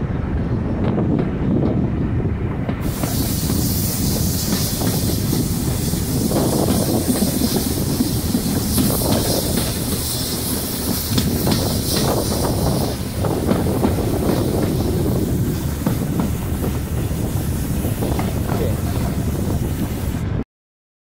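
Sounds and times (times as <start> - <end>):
train wheels rumbling on rails: 0.0 - 20.4
high hiss: 2.8 - 20.3.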